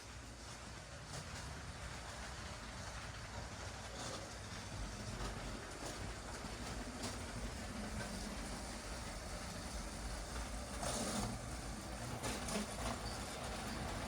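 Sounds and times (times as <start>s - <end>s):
toy train running on track: 0.0s - 14.0s.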